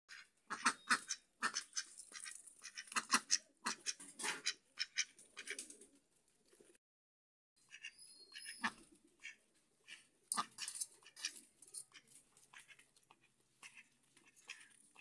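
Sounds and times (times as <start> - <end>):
ducks quacking: 0.1 - 5.7, 7.6 - 15.0.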